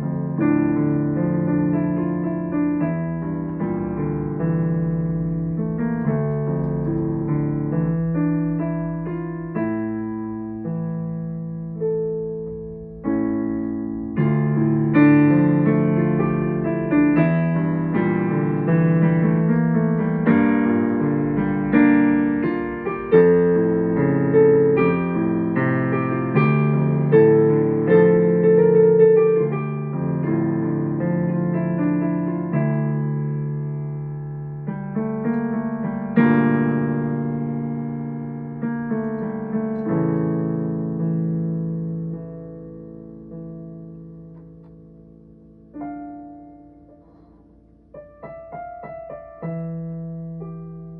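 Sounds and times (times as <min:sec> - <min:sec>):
slow solo piano chords: 0:00.0 - 0:50.9.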